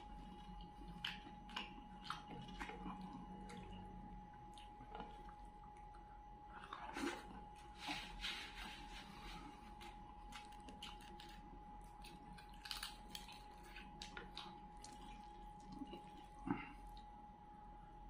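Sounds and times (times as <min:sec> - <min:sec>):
chewing and wet lip-smacking: 0:00.0 - 0:07.4, 0:09.8 - 0:17.2
faint steady hum: 0:00.0 - 0:18.0.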